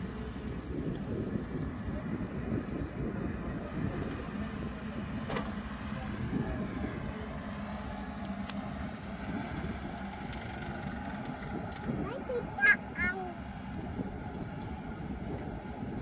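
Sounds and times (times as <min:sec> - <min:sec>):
excavator diesel engine humming: 0:00.0 - 0:16.0.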